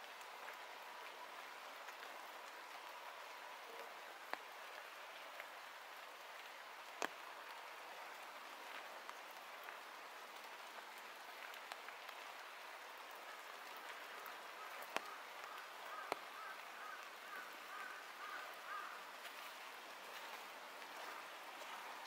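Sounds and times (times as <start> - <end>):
light rain on leaves: 0.0 - 22.0
water drips: 0.0 - 22.0.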